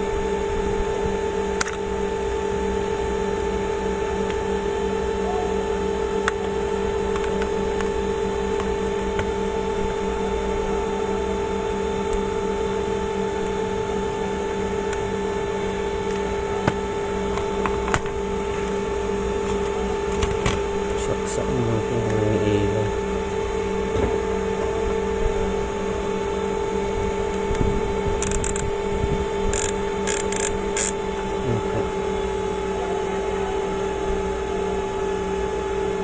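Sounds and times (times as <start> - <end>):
electrical machine hum: 0.0 - 36.0.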